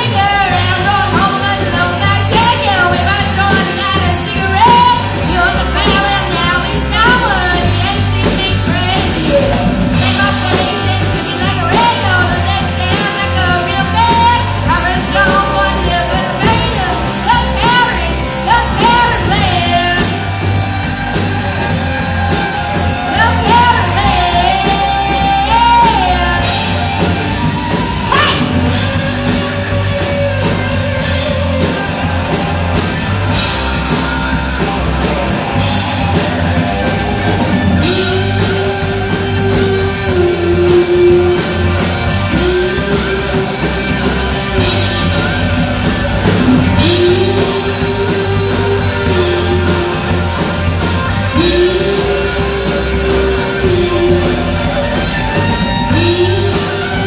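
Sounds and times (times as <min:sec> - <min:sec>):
bass guitar: 0:00.0 - 0:57.0
drum kit: 0:00.0 - 0:57.0
lead guitar bent notes: 0:00.0 - 0:57.0.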